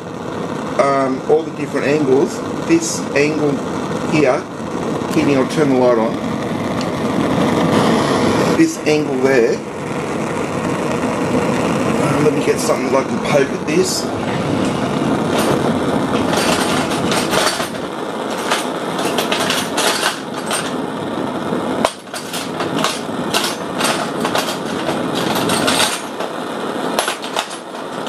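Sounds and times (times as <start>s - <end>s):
burner flame rushing: 0.0s - 28.0s.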